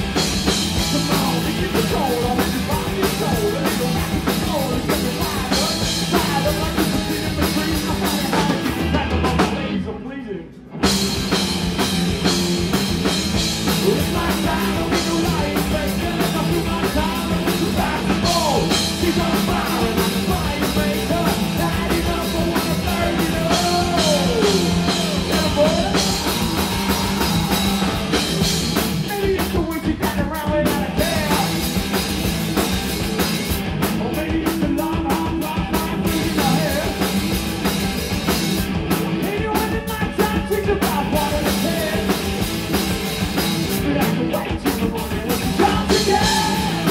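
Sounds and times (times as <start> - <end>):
live rock band playing: 0.0 - 10.0, 10.6 - 46.9.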